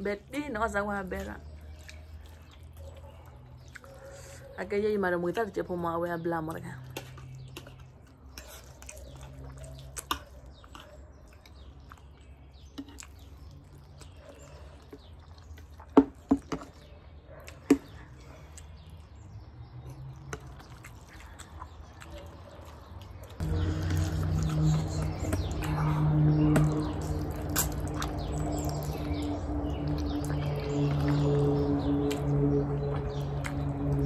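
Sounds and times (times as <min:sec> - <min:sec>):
wet slurping and chewing: 0:01.2 - 0:04.3, 0:06.8 - 0:19.2, 0:19.8 - 0:34.0.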